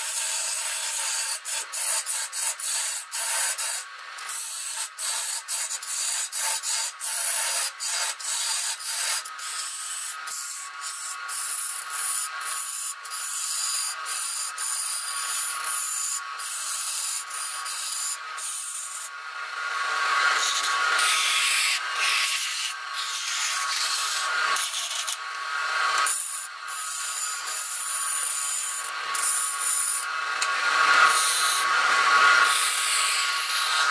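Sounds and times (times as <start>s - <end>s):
lathe tool scraping wood: 0.0s - 33.9s.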